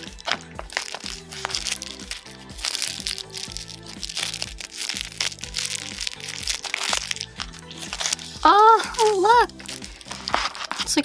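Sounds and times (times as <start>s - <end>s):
background music with beat: 0.0s - 11.0s
plastic wrapper crinkling: 0.0s - 11.0s.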